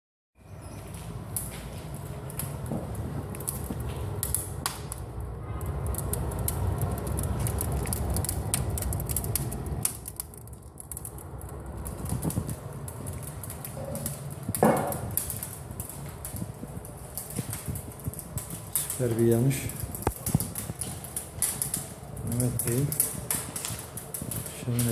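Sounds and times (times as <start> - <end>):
low rumble of flames: 0.4 - 24.9
wood fire crackling and popping: 0.4 - 24.9.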